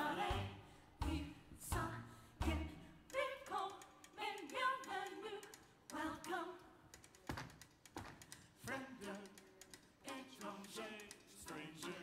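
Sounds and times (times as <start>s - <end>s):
performers singing: 0.0s - 6.6s, 8.6s - 12.0s.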